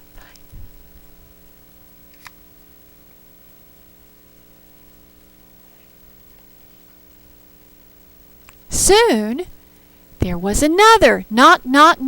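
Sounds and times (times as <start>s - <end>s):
faint electrical hum with hiss: 0.0s - 12.0s.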